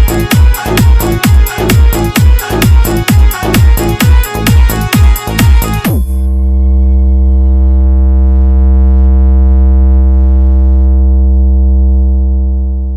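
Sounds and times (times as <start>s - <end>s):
deep held bass synth note: 0.0s - 12.9s.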